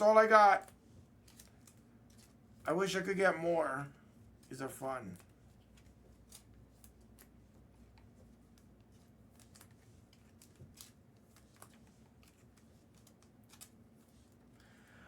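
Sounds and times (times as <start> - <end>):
trading cards rustling: 0.2 - 3.0, 4.4 - 14.5.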